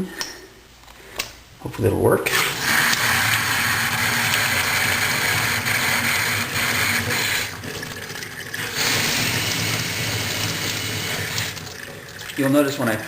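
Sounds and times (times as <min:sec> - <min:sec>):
water running into sink: 0:02.2 - 0:13.0.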